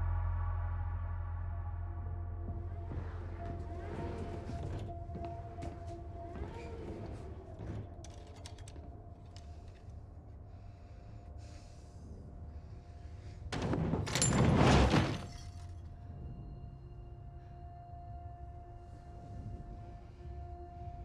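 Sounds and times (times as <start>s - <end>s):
train interior rumble: 0.0s - 21.0s.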